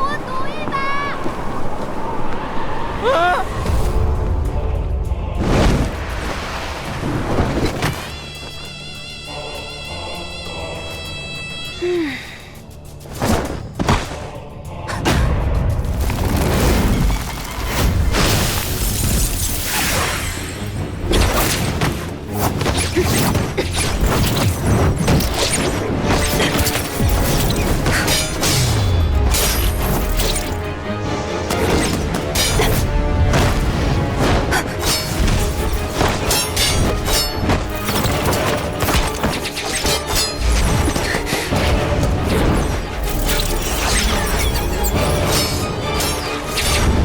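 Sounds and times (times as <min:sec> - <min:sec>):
film score music: 0:00.0 - 0:47.0.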